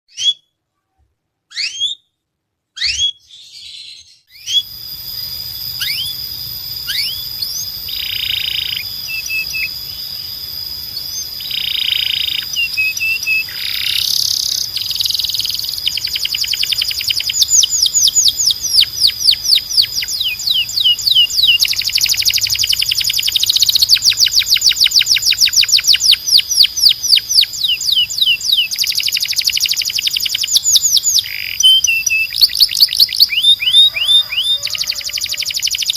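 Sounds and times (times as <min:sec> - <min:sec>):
canary singing trills: 0:02.8 - 0:35.9.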